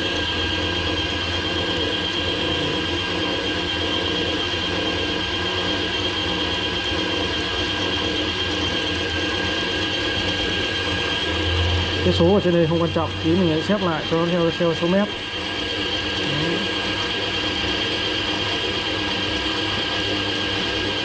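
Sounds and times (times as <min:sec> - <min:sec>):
electric fishing reel motor whining: 0:00.0 - 0:21.0.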